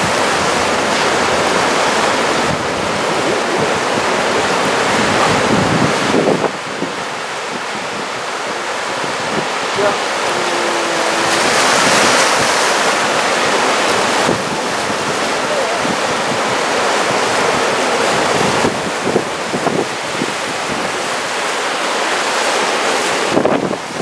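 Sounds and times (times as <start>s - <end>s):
ocean surf breaking: 0.0s - 24.0s
wind buffeting microphone: 0.0s - 24.0s.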